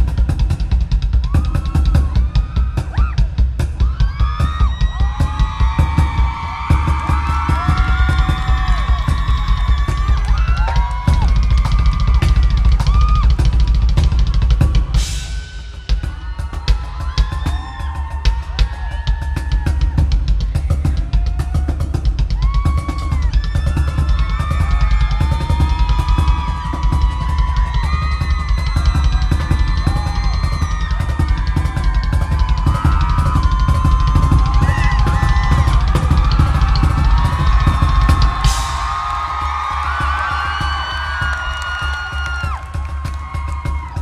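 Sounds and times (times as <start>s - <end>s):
bucket drums played fast: 0.0s - 44.0s.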